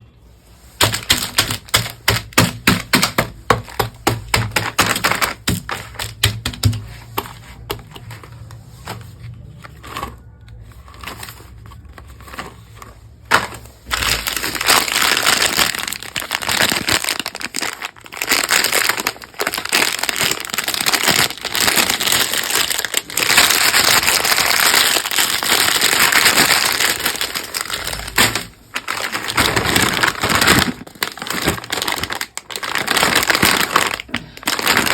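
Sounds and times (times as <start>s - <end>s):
wrapper crackling and crinkling: 0.0s - 34.9s.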